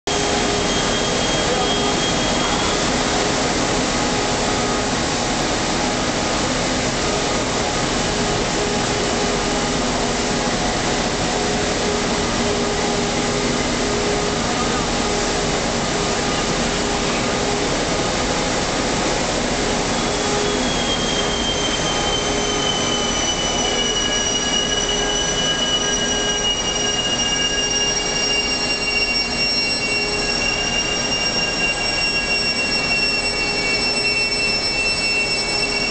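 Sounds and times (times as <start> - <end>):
high whine falling in pitch: 0.1 - 35.9
loud steady machine noise: 0.1 - 35.9
machine hums: 0.1 - 35.9.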